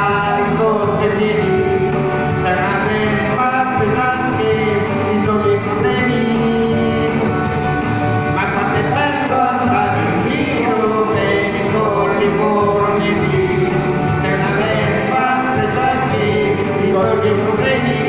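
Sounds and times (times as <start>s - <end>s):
man singing into a microphone: 0.0s - 18.0s
recorded backing track: 0.0s - 18.0s.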